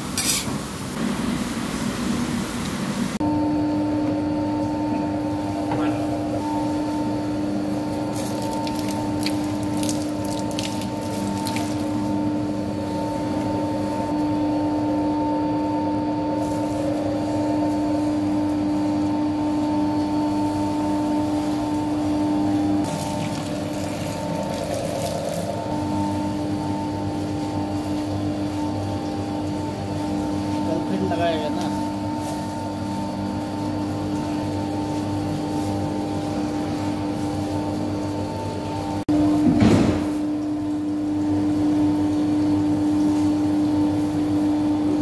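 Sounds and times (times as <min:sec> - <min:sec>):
dough mixer motor hum: 0:00.9 - 0:45.0.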